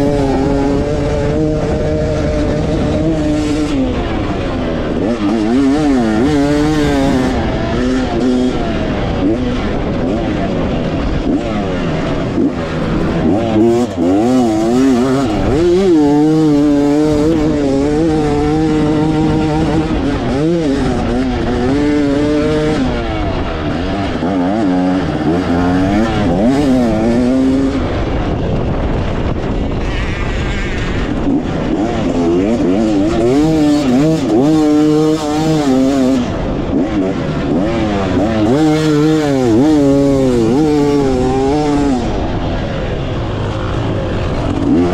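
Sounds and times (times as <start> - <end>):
dirt bike engine revving: 0.0 - 44.9
wind rush on microphone: 0.0 - 44.9.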